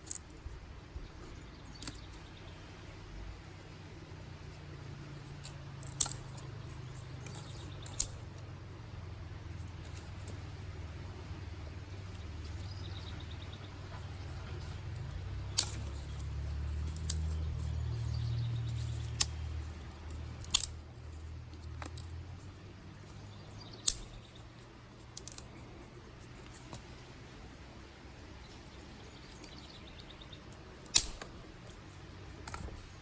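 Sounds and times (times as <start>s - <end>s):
dry sticks snapping: 0.0s - 0.6s, 1.3s - 2.6s, 4.5s - 8.6s, 9.6s - 10.6s, 11.7s - 27.1s, 28.4s - 33.0s.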